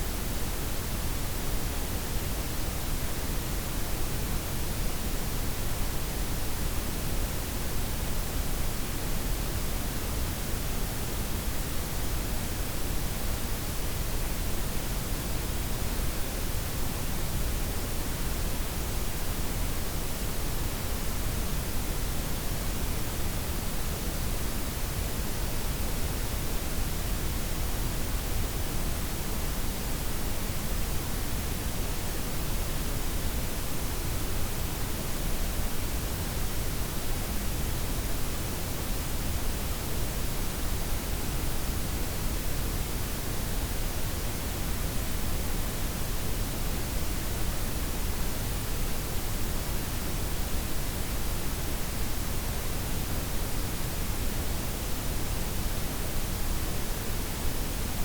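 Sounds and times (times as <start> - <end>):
steady low noise hiss: 0.0 - 58.0.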